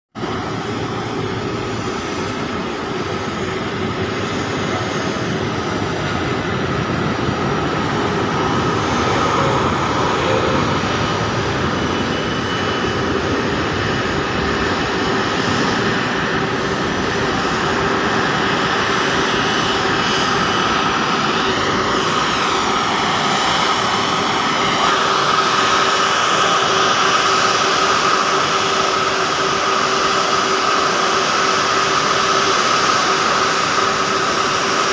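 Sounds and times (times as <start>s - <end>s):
jet engines roaring with whine: 0.1s - 34.9s.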